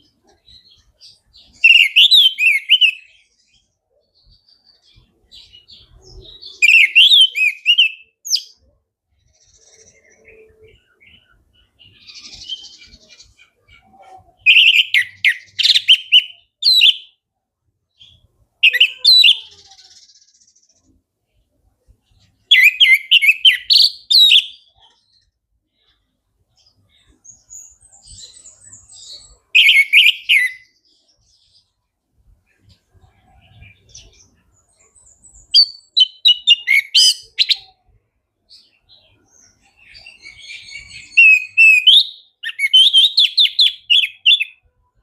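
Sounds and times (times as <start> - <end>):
soft bird chirps: 0.0 - 45.0.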